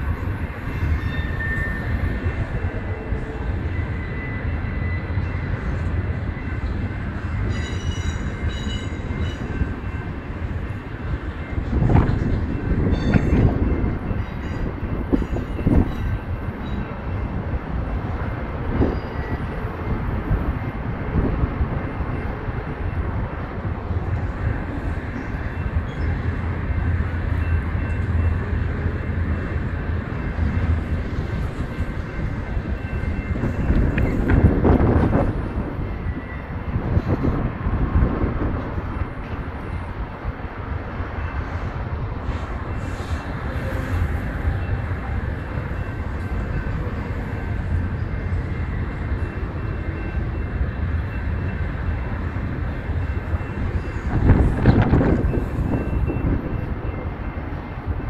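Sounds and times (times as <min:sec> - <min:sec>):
steel wheels rumbling on rail: 0:00.0 - 0:58.0
train cars clattering and knocking: 0:00.0 - 0:58.0.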